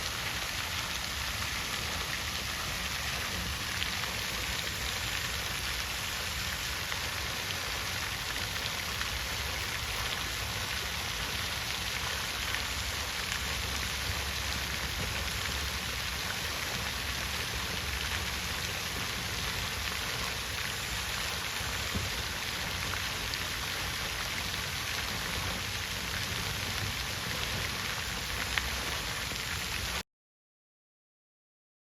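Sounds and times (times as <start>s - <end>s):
water fountain splashing: 0.0s - 30.0s.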